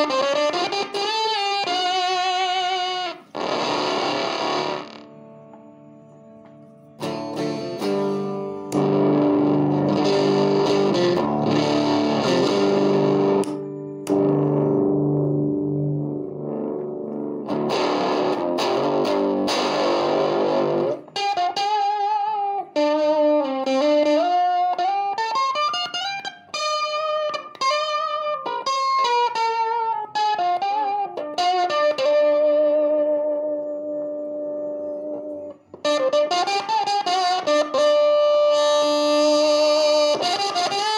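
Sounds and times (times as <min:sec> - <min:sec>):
fuzzed electric guitar: 0:00.0 - 0:40.9.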